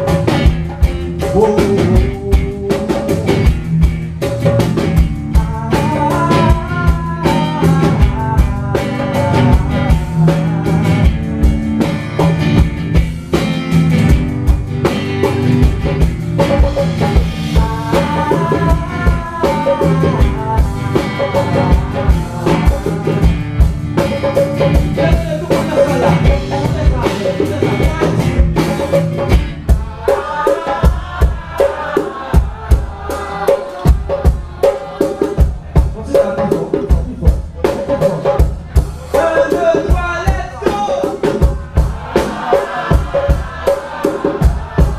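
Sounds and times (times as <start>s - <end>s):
bass: 0.0s - 34.6s, 35.4s - 43.7s
drum kit with rimshots: 0.0s - 44.9s
guitar: 0.0s - 44.9s.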